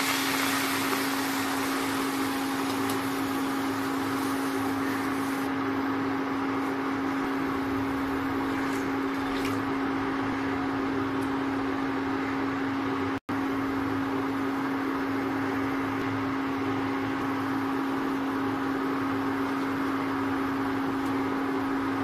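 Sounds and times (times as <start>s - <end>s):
induction cooktop hum and whir: 0.0s - 22.0s.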